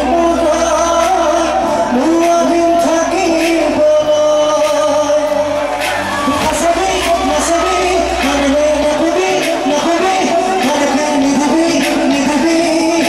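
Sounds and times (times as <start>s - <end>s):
band accompaniment: 0.0s - 13.0s
man singing into microphone: 0.0s - 13.0s.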